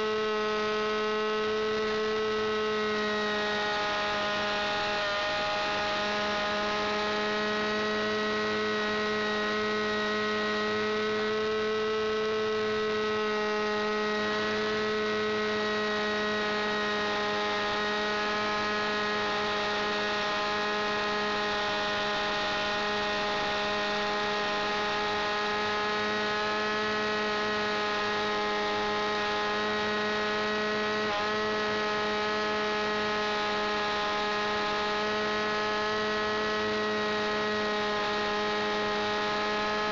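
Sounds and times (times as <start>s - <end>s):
model aeroplane engine drone: 0.0s - 39.9s.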